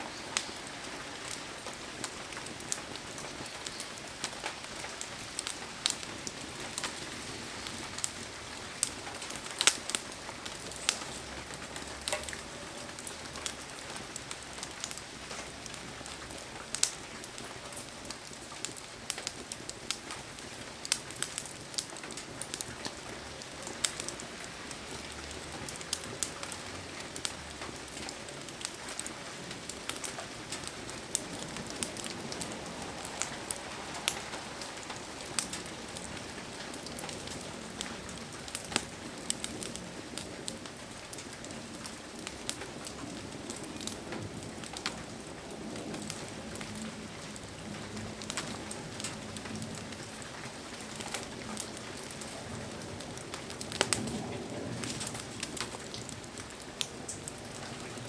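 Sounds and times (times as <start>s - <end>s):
heavy rain hissing: 0.0s - 19.1s, 23.0s - 58.0s.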